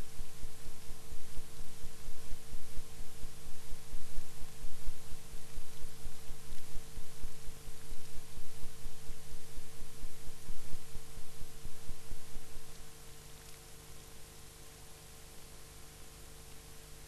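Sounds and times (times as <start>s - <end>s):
electrical hum: 0.0s - 17.0s
faint hiss: 0.0s - 17.0s.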